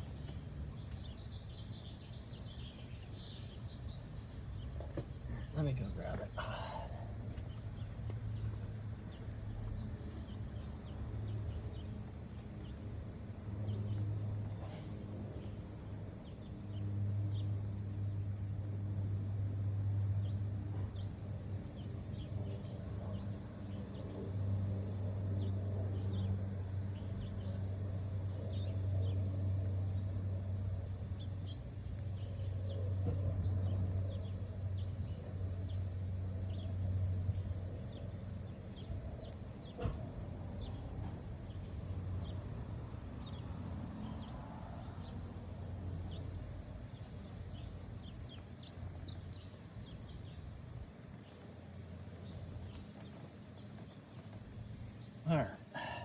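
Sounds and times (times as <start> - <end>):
small birds chirping: 0.0 - 56.0
steady low hum: 0.0 - 56.0.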